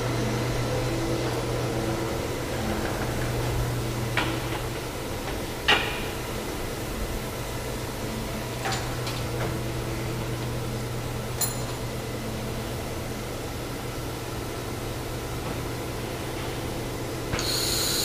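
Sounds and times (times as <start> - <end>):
machinery idling hum: 0.0 - 18.0.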